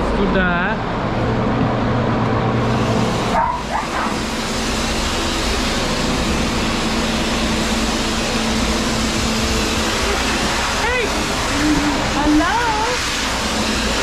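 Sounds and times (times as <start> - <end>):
pet dryer blowing air: 0.0 - 14.0.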